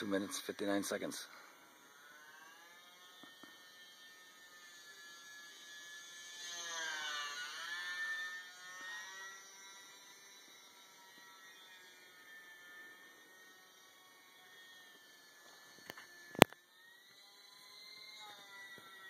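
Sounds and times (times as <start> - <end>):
model plane electric motor whining: 0.0 - 19.0.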